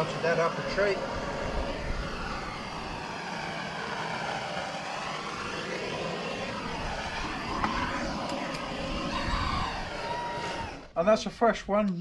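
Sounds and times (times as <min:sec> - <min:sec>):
gas blowtorch hissing: 0:00.0 - 0:10.9.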